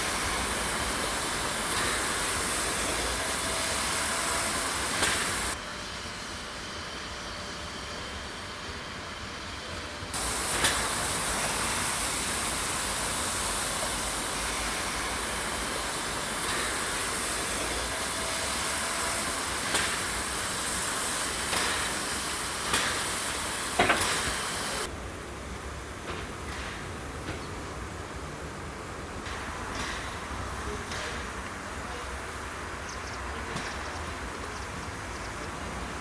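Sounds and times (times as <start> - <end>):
locomotive steam hissing: 0.0 - 24.9, 26.4 - 36.0.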